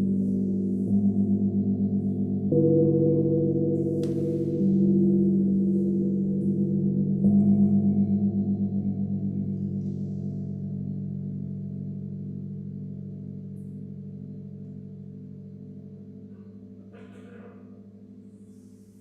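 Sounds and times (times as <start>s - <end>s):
sound bowls ringing: 0.0s - 16.8s.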